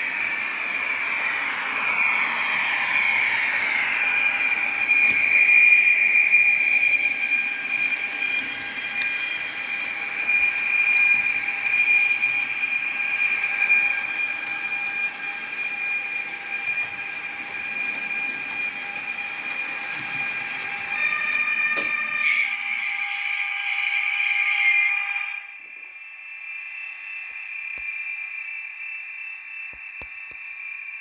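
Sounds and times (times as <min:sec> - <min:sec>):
model locomotive running noise: 0:00.0 - 0:31.0
model locomotive whine: 0:00.0 - 0:31.0.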